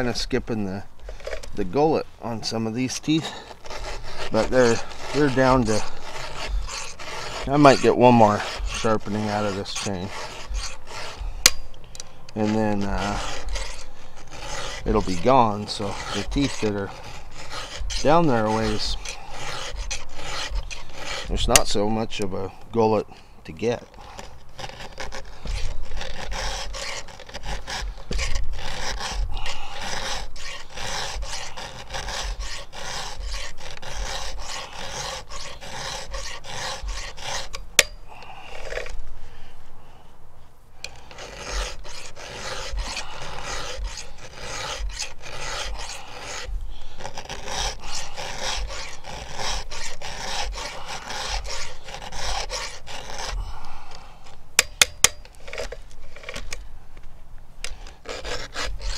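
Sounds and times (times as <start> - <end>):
file rasping on chainsaw chain: 0.0 - 39.0, 40.8 - 56.4, 57.6 - 58.9.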